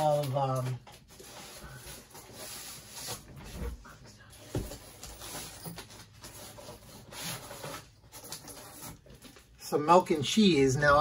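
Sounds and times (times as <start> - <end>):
comic books being handled: 0.0 - 11.0.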